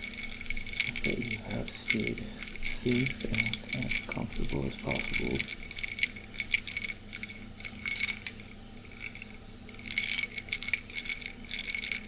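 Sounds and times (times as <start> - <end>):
ice cubes clinking against glass: 0.0 - 12.0.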